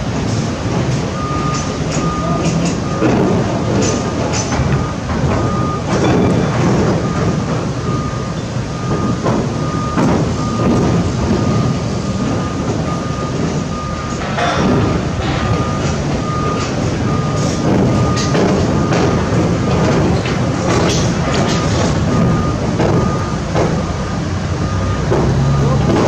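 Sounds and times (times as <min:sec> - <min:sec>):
heavy machinery rumbling: 0:00.0 - 0:26.0
warning beeper: 0:04.7 - 0:26.0.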